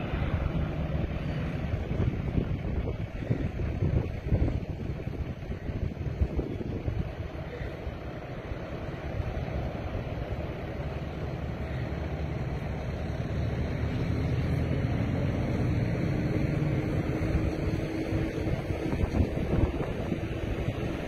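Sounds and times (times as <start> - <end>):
jet engines humming: 0.0 - 21.0
wind buffeting microphone: 0.0 - 21.0.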